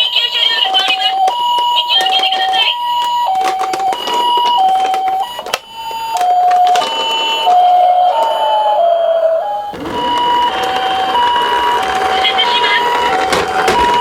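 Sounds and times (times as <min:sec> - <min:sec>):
toy two-tone siren: 0:00.0 - 0:14.0.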